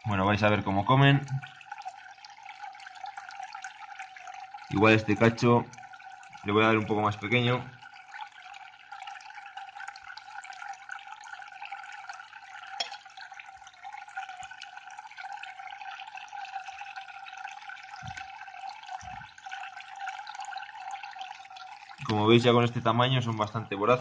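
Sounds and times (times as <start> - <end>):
water trickling and splashing: 0.0 - 24.0.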